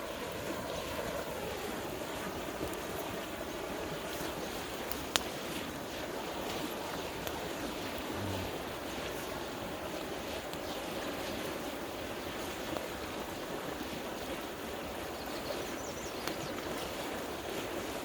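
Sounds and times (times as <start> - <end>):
campfire crackling: 0.0 - 18.0
river water rushing: 0.0 - 18.0.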